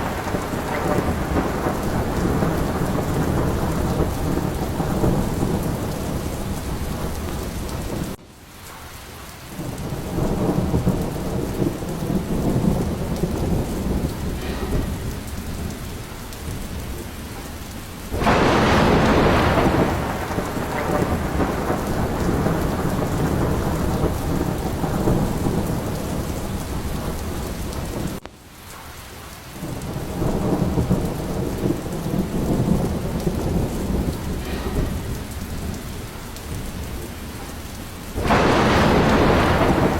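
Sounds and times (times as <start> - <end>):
loud thunderclap: 0.0 - 8.2, 9.6 - 28.2, 29.6 - 39.9
low rolling thunder: 0.0 - 8.2, 9.4 - 28.2, 29.6 - 39.9
heavy rain: 0.0 - 39.9.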